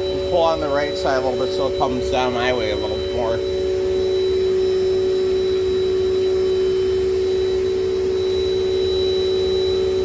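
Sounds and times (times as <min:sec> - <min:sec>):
vacuum cleaner motor whining: 0:00.0 - 0:10.0.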